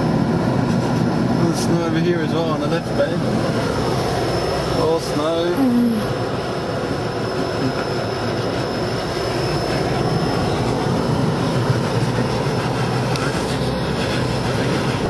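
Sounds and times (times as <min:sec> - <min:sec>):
car road noise at speed: 0:00.0 - 0:15.0.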